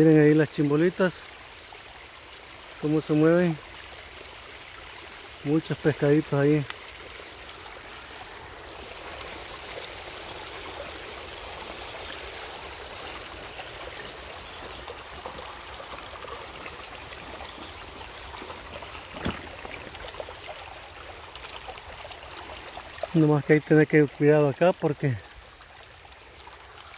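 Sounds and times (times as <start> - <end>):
creek babbling over stones: 0.0 - 26.9.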